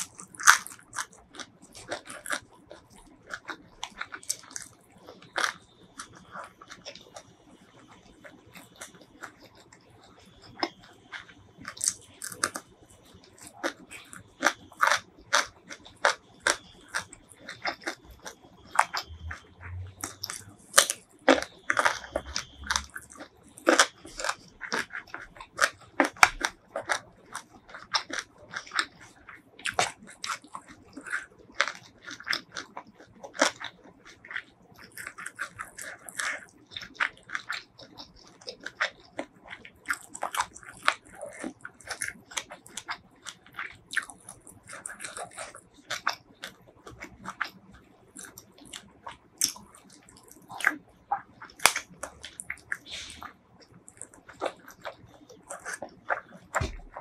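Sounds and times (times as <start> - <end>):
mouth clicks and crunches: 0.0 - 57.0
person chewing food: 0.0 - 57.0.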